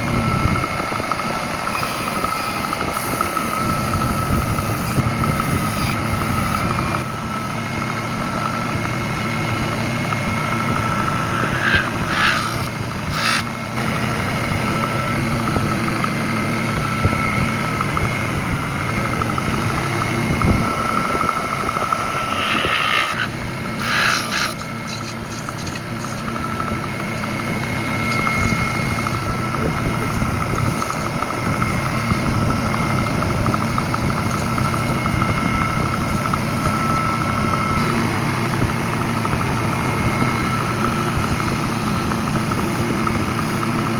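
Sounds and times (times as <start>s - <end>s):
machine motor whining: 0.0s - 43.9s.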